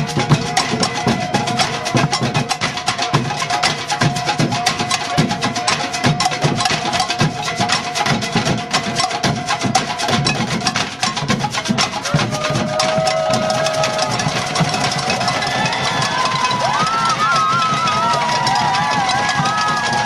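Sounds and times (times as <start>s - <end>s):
rapid clicking strokes: 0.0s - 20.0s.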